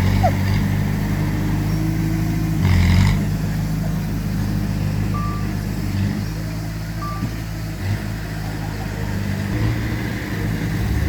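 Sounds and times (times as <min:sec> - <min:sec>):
heavy diesel engine running under load: 0:00.0 - 0:11.0.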